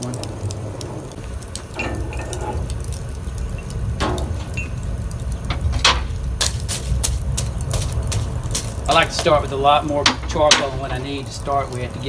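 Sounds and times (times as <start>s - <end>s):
charcoal lumps clinking: 0.0s - 12.0s
low steady rumble: 0.0s - 12.0s.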